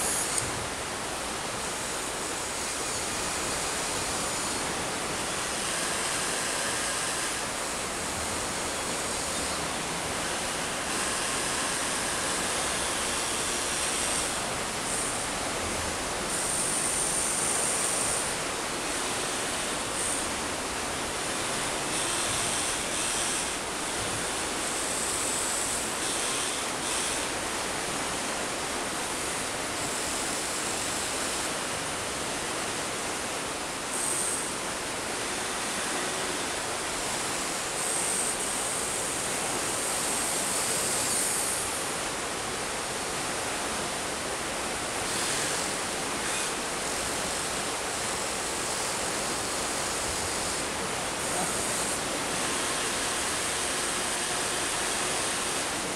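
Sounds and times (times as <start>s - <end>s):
electric motor whine: 0.0s - 55.9s.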